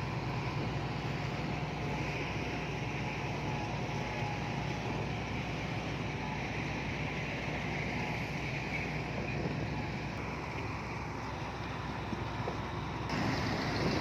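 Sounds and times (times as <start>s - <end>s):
heavy diesel machinery drone: 0.0s - 14.0s.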